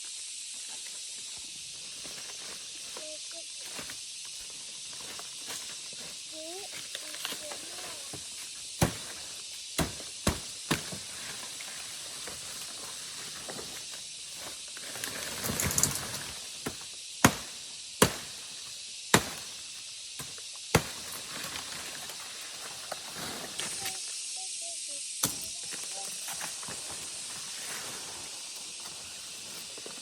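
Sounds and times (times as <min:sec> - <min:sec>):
leaves rustling: 0:00.0 - 0:30.0
steady high hiss: 0:00.0 - 0:30.0
blade chopping palm leaves: 0:02.0 - 0:24.0, 0:25.2 - 0:30.0.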